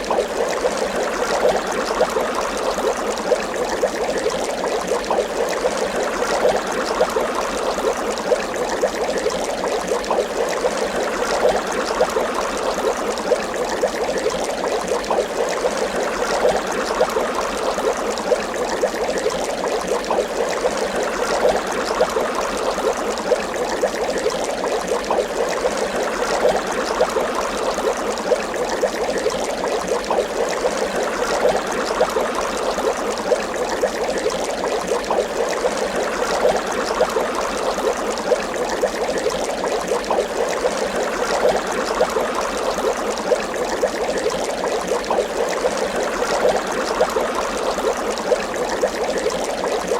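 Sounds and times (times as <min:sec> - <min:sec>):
water bubbling and gurgling: 0:00.0 - 0:49.9.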